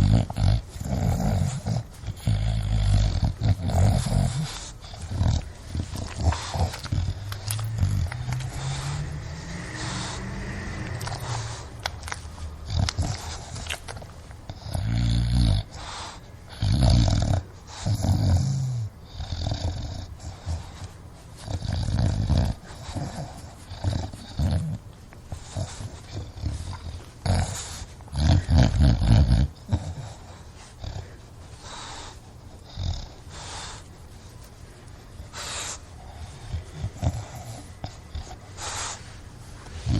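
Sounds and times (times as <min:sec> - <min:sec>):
dog snorting and grunting: 0:00.0 - 0:34.3, 0:35.2 - 0:39.9
dog breathing noisily: 0:00.0 - 0:39.9.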